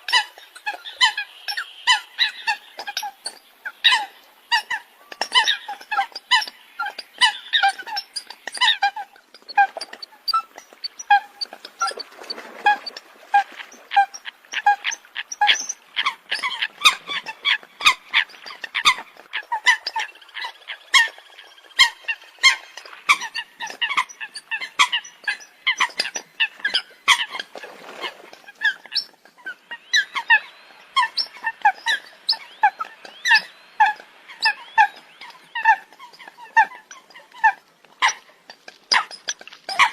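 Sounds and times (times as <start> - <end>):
coots calling: 0.0 - 39.9.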